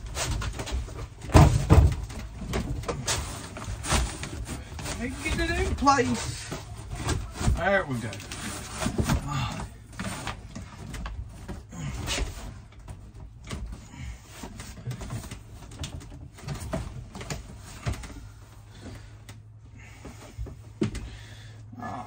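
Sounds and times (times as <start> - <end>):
wall panel knocking and scraping: 0.0 - 19.1.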